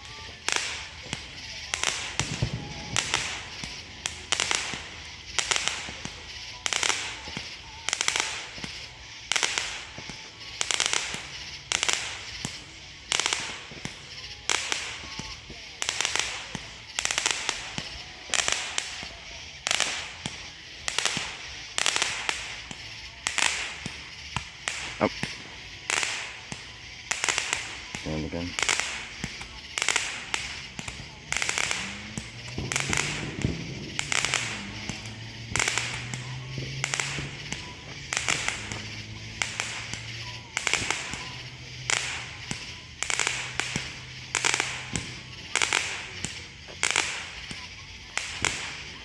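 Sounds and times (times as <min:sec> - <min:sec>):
fireworks crackling: 0:00.0 - 0:49.0.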